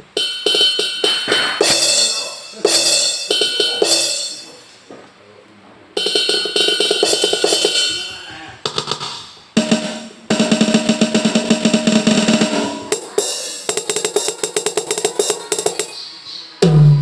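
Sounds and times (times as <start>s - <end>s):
electronic drum pad hits: 0.0s - 4.6s, 6.0s - 16.0s, 16.6s - 17.0s.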